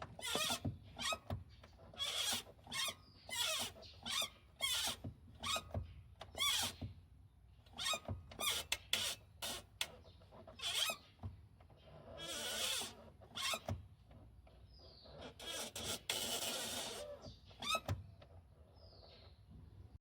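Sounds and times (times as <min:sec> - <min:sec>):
clutch squeaking: 0:00.0 - 0:07.1, 0:07.7 - 0:18.4.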